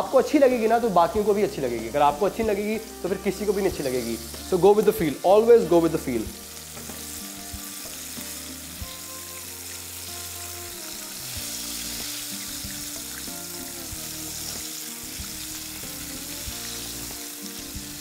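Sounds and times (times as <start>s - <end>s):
background music: 0.0s - 18.0s
wings sizzling in hot oil: 0.0s - 18.0s.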